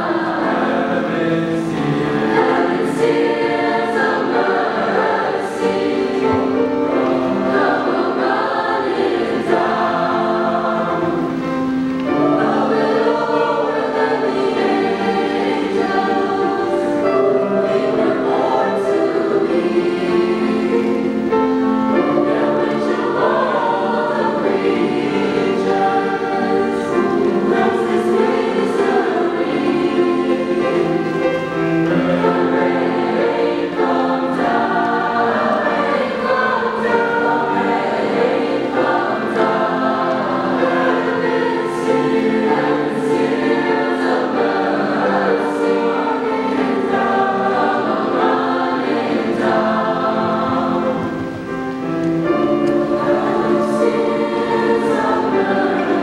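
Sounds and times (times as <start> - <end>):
mixed choir singing in harmony: 0.0 - 56.0.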